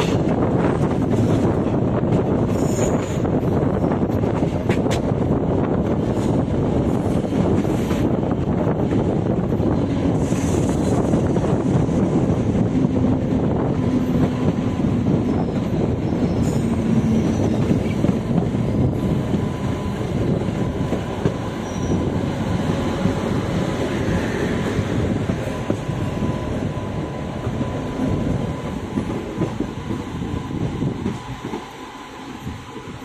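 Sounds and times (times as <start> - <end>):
rumble and rattle of train wheels: 0.0 - 33.0.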